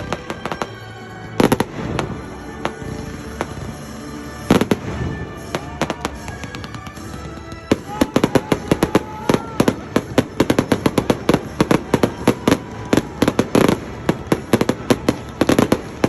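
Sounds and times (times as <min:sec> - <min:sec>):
crackling firework reports: 0:00.0 - 0:16.0
firework bangs: 0:00.0 - 0:16.0
music playing: 0:00.0 - 0:16.0.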